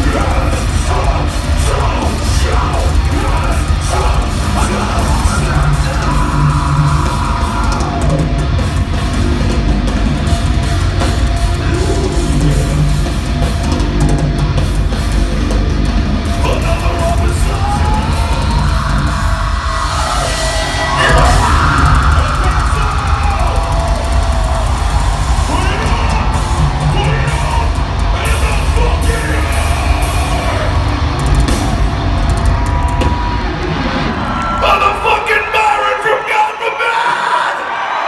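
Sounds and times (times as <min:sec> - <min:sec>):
singer yelling vocals: 0:00.0 - 0:08.3, 0:11.0 - 0:13.2, 0:16.4 - 0:33.4, 0:34.2 - 0:38.0
drum kit: 0:00.0 - 0:36.1
distorted guitars: 0:00.0 - 0:36.3.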